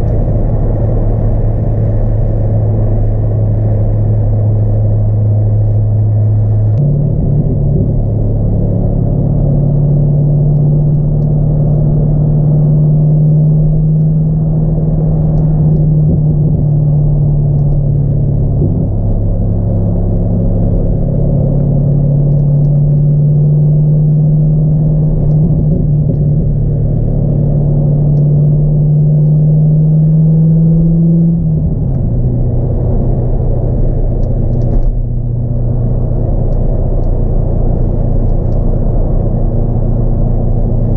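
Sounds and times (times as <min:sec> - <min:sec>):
car engine drone from cabin: 0:00.0 - 0:40.9.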